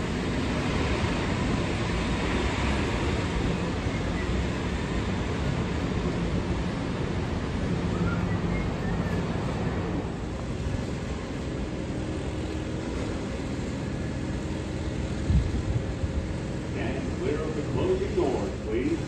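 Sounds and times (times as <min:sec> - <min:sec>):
train ventilation hum and whir: 0:00.0 - 0:19.0.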